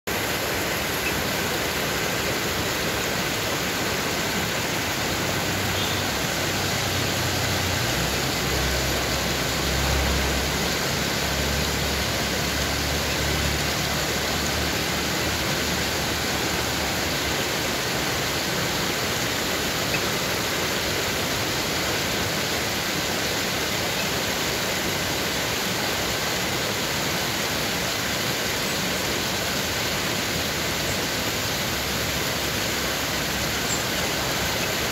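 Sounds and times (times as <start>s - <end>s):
stream cascading over rocks: 0.1s - 34.9s.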